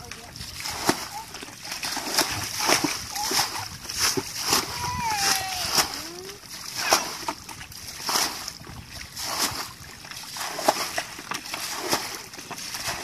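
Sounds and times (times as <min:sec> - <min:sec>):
buckets splashing muddy water: 0:00.0 - 0:13.0.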